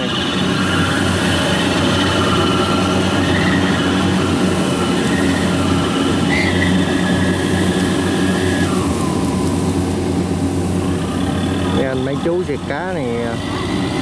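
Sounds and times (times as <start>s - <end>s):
combine harvester engine drone: 0.0s - 14.0s
high mechanical whine: 0.0s - 14.0s.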